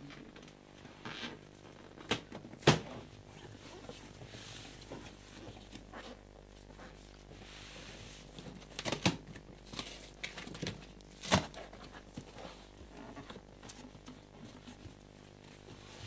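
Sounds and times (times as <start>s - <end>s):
cardboard flaps rustling: 2.0s - 16.0s.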